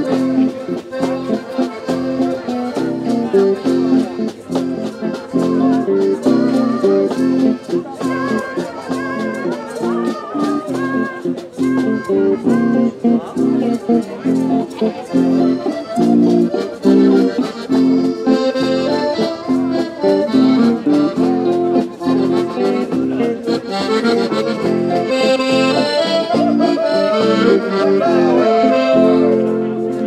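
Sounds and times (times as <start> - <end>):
folk dance music: 0.0 - 30.0.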